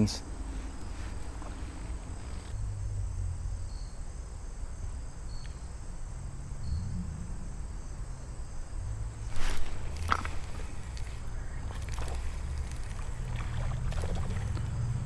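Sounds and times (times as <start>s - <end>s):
crickets chirping: 0.0s - 15.0s
low outdoor rumble: 0.0s - 15.0s.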